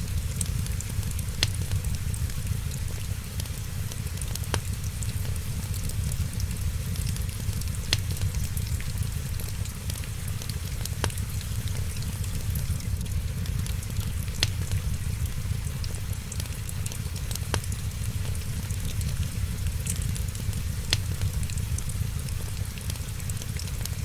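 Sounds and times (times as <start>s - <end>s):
fire low rumble: 0.0s - 24.0s
rain hissing: 0.0s - 24.0s
sharp fire pops: 0.0s - 24.0s
wood fire crackling: 0.0s - 24.0s.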